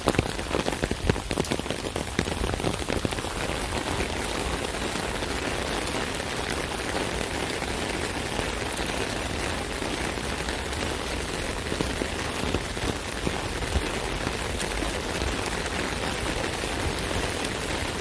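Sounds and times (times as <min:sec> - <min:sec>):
rain pattering on an umbrella: 0:00.0 - 0:18.0.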